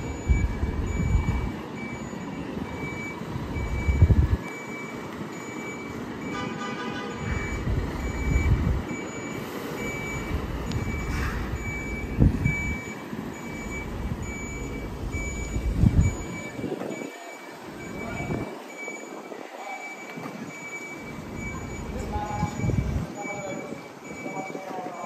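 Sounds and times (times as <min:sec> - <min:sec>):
diesel engine surging: 0:00.0 - 0:06.3, 0:07.1 - 0:25.0
truck reversing alarm beeping: 0:00.0 - 0:25.0.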